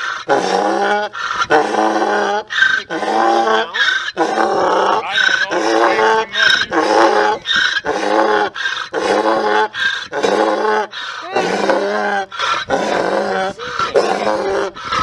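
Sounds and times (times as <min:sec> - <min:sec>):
donkey braying: 0:00.0 - 0:15.0.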